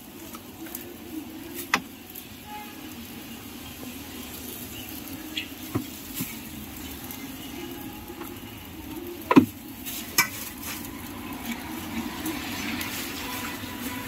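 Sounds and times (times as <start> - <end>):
metal tongs on steel pans: 1.5 - 14.0.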